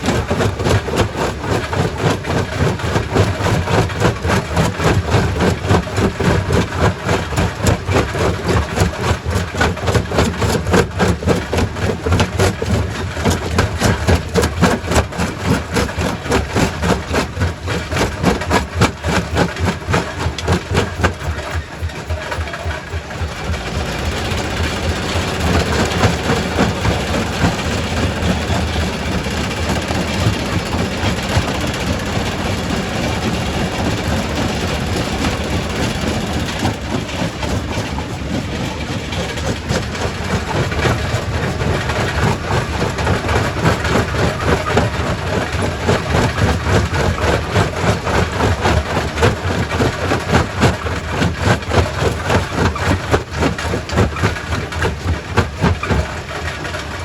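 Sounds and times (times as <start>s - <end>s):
low machine drone: 0.0s - 57.0s.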